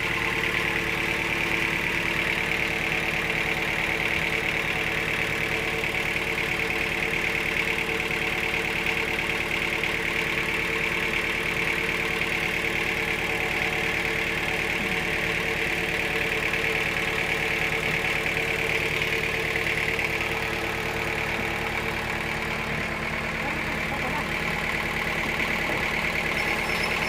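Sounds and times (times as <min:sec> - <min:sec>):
engine low hum: 0:00.0 - 0:27.0.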